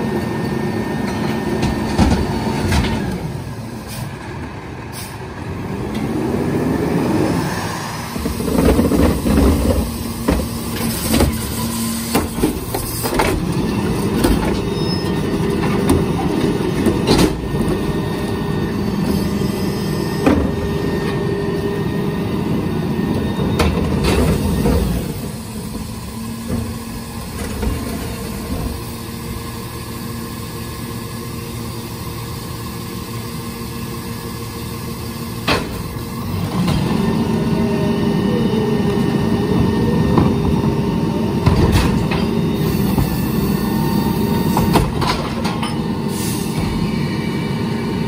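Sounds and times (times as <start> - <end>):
garbage truck hydraulic hum: 0.1 - 48.0.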